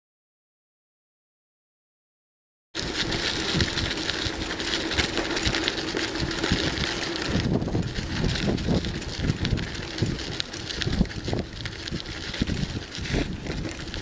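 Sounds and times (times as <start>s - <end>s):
wind rushing over microphone: 2.8s - 14.0s.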